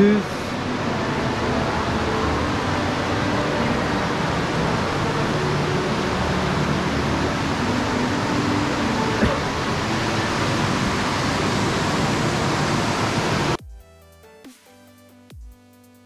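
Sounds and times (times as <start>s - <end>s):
indoor fountain water rushing: 0.0s - 13.6s.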